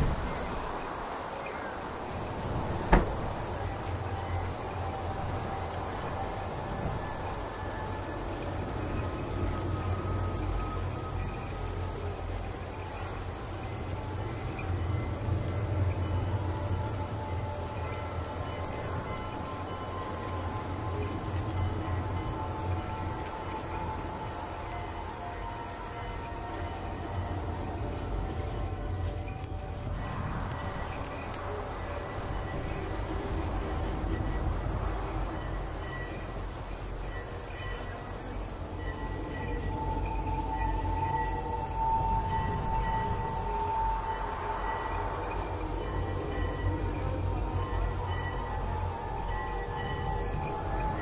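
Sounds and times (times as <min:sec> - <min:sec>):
high-pitched hiss: 0:00.0 - 0:51.0
moving train rumble: 0:00.0 - 0:51.0.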